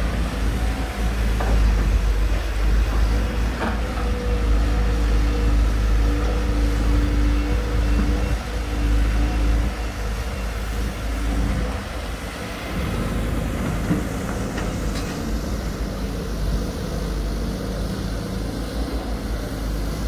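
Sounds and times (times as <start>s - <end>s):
excavator diesel engine digging: 0.0s - 20.0s.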